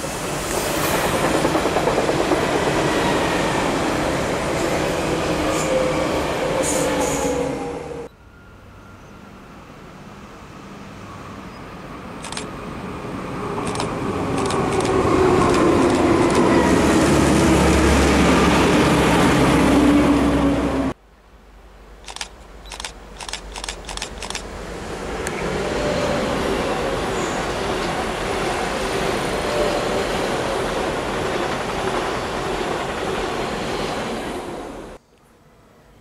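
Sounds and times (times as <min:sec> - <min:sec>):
electric train passing: 0:00.0 - 0:21.0, 0:22.8 - 0:36.0.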